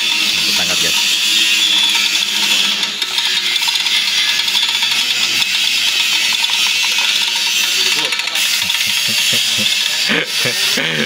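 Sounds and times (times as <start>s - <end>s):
small metal gear clicking and rattling: 0.0s - 10.8s.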